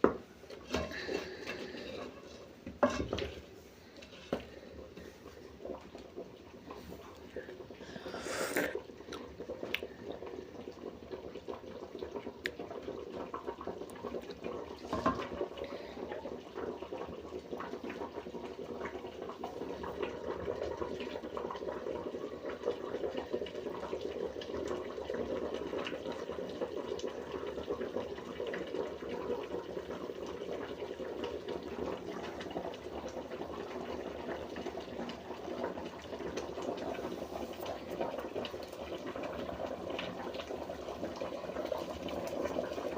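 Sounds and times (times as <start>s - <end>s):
soup boiling and bubbling: 0.0s - 42.9s.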